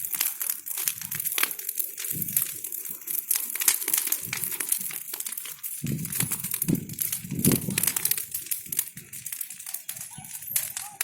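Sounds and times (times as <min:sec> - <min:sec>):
bonfire crackling and snapping: 0:00.0 - 0:11.0.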